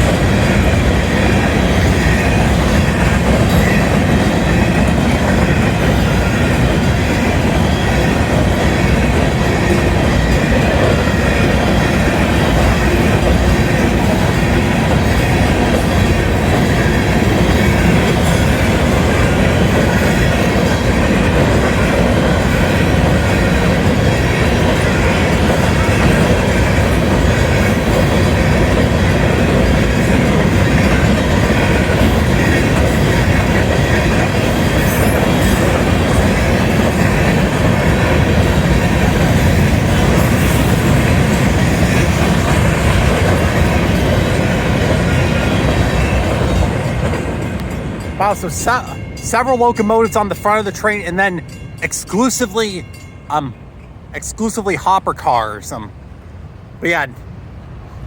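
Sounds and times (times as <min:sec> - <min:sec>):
clickety-clack over rail joints: 0:00.0 - 0:56.3
freight train wheels rumbling on rail: 0:00.0 - 0:58.0.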